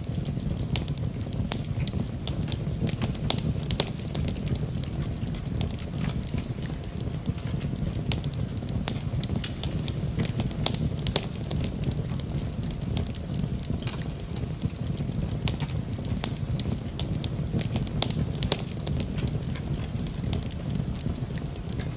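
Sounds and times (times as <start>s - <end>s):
low rumble of flames: 0.0s - 21.9s
sharp snaps of burning wood: 0.0s - 21.9s
wood fire crackling and popping: 0.0s - 21.9s.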